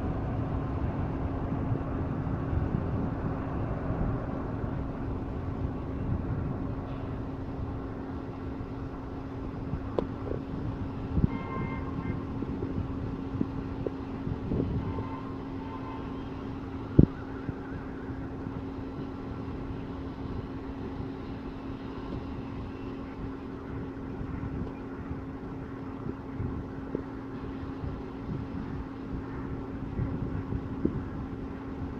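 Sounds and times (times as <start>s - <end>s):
low engine hum: 0.0s - 31.9s
wind-like rumbling noise: 0.0s - 31.9s.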